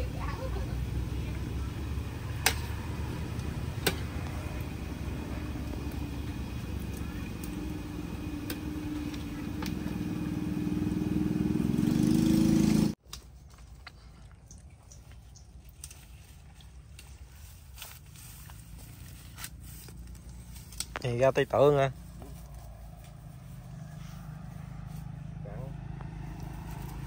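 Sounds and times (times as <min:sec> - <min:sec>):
engine droning: 0:00.0 - 0:13.0, 0:15.8 - 0:27.0.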